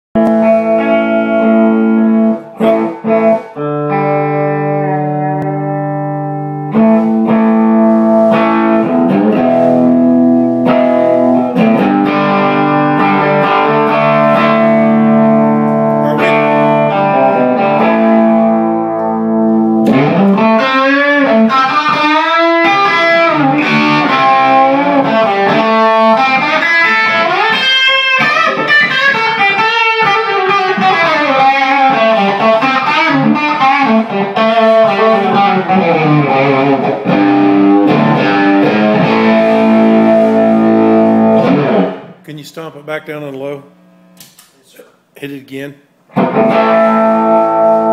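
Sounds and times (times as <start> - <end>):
electric guitar: 0.2 - 42.2, 46.1 - 47.9.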